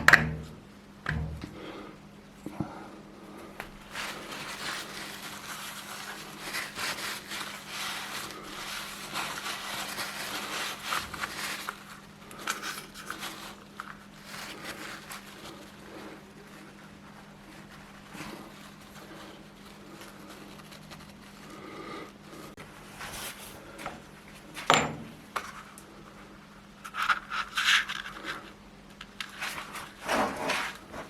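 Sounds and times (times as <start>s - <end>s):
steady low hum: 0.0s - 26.7s.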